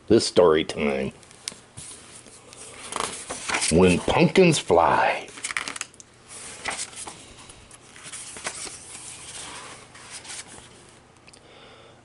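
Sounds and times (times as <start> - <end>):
book pages turning: 1.3 - 11.0.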